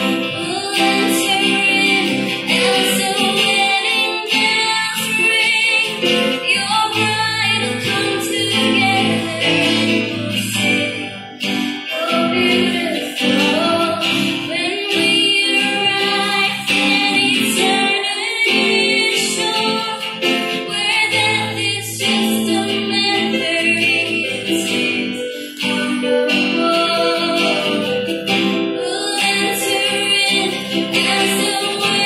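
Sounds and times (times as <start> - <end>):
acoustic guitar: 0.0 - 32.0
woman singing gospel: 0.0 - 32.0.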